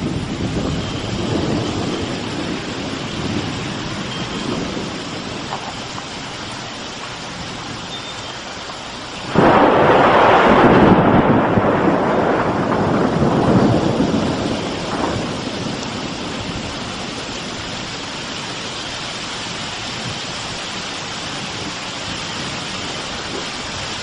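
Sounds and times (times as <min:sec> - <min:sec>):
rain falling: 0:00.0 - 0:24.0
thunder rumbling: 0:00.0 - 0:24.0.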